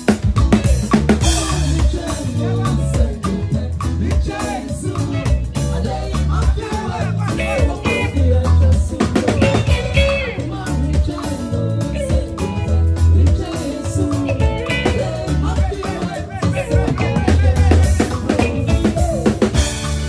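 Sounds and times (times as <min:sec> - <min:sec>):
bass guitar: 0:00.0 - 0:20.0
drum kit with cymbals: 0:00.0 - 0:20.0
electric guitar: 0:00.0 - 0:20.0
keyboard: 0:00.0 - 0:20.0.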